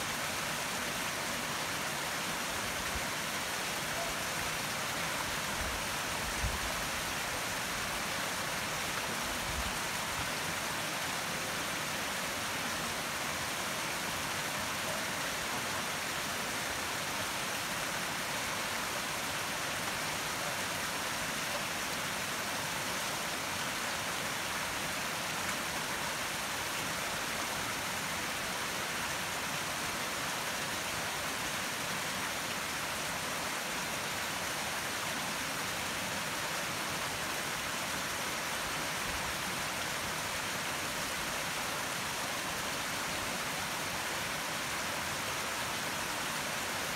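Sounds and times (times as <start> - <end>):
river rushing: 0.0 - 46.9.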